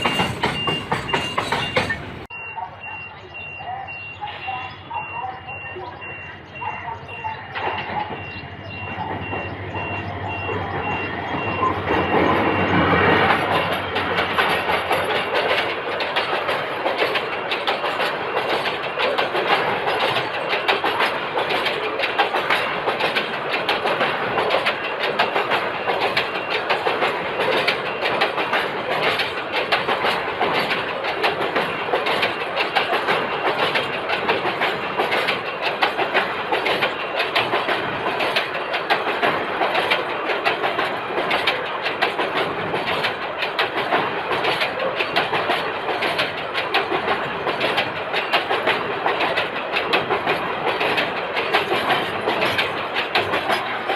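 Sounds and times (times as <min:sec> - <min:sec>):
train wheels clattering on rails: 0:00.0 - 0:02.3, 0:05.4 - 0:53.9.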